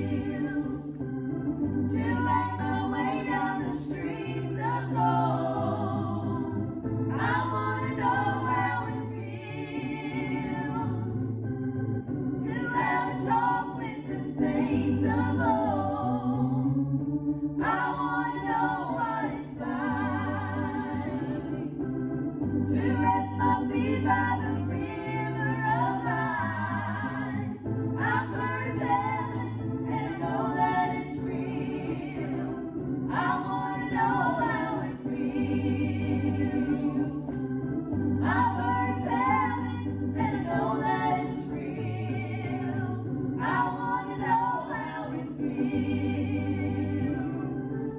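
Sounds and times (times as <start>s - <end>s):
gospel voices singing: 0.0s - 47.9s
organ accompaniment: 0.0s - 47.9s.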